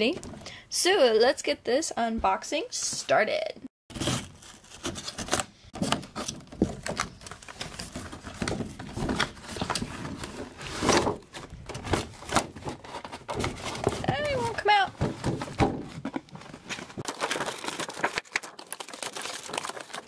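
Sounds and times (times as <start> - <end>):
cardboard and plastic rustling: 3.9 - 20.0.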